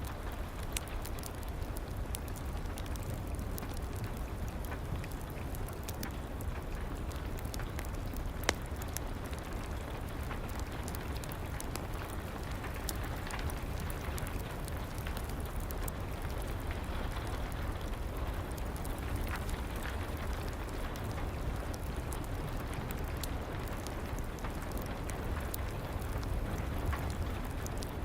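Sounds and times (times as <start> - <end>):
steady rain falling: 0.0 - 28.0
wood fire crackling: 0.0 - 28.0.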